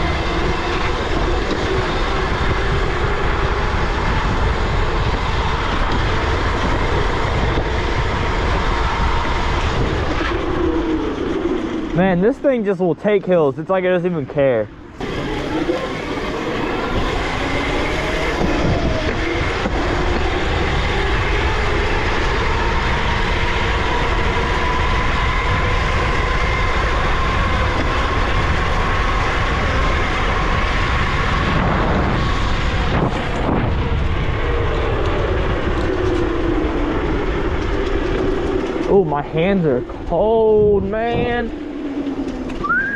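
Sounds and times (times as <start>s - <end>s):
electric motor whine: 0.0s - 12.2s, 14.7s - 42.9s
wind rush and tyre noise: 0.0s - 42.9s.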